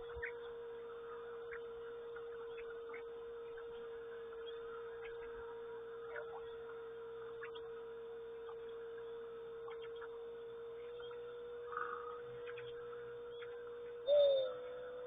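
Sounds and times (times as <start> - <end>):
small birds chirping faintly: 0.0 - 15.0
steady hum: 0.0 - 15.0.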